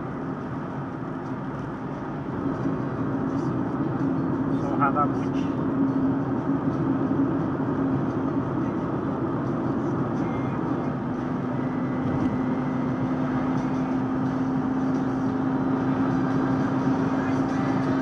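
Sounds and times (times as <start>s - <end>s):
car interior road noise: 0.0s - 18.0s.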